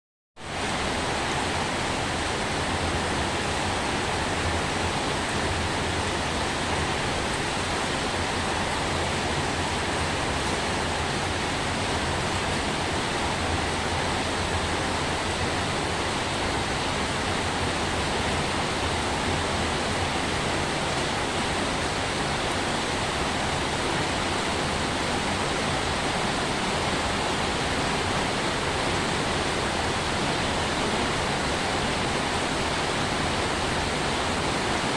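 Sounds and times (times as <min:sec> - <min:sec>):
heavy rain hissing: 0:00.4 - 0:34.9.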